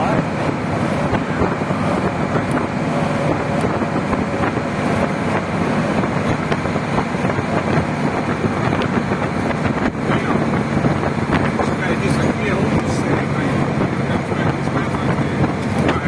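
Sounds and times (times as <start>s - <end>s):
vehicle engine rumbling: 0.0s - 16.0s
wind buffeting microphone: 0.0s - 16.0s.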